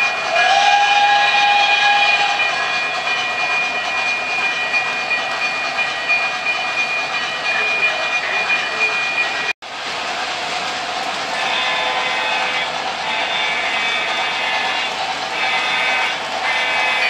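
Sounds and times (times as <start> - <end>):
locomotive whistle tone: 0.0 - 9.5, 11.4 - 17.0
model trains rolling with high whine: 0.0 - 17.0.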